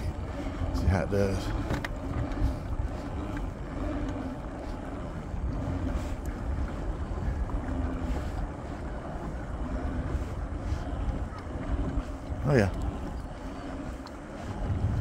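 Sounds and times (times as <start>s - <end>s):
pedal drive low hum: 0.0s - 15.0s
wind rumbling on microphone: 0.0s - 15.0s.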